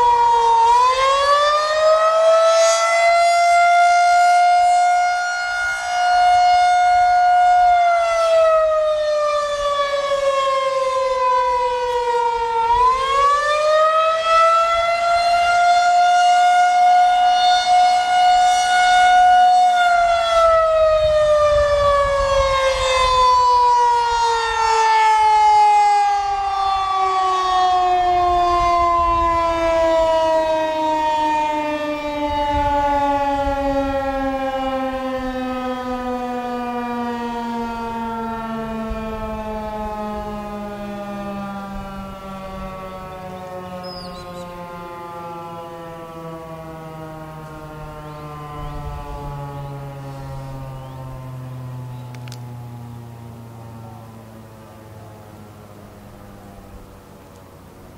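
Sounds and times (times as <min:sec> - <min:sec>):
warning siren wailing: 0:00.0 - 0:57.9.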